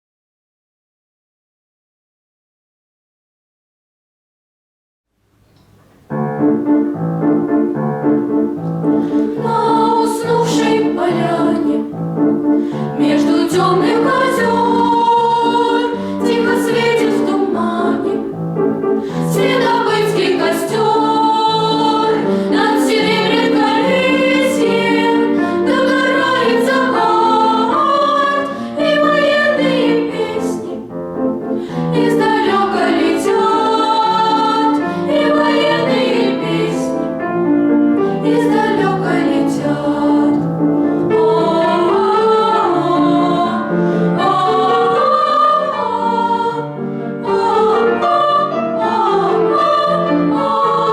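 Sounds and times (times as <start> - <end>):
vocal ensemble singing: 6.9 - 50.9.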